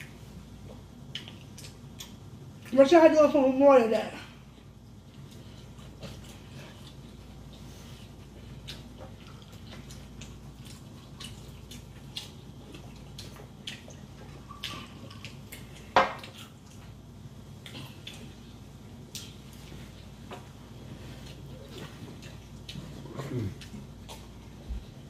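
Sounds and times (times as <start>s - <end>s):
chewing with smacks and clicks: 0.0s - 2.8s, 4.4s - 25.0s.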